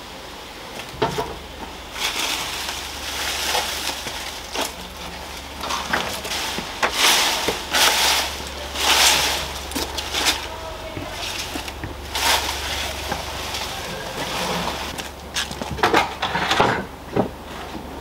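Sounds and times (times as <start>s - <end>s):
rustling and crunching of ivy: 0.6s - 16.4s.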